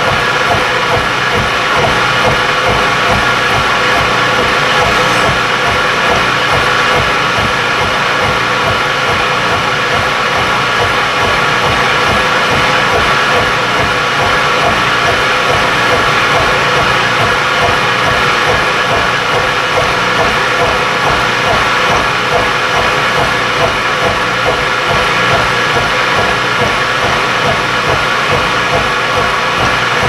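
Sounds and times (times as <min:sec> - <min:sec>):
milling machine cutting steel: 0:00.0 - 0:30.0.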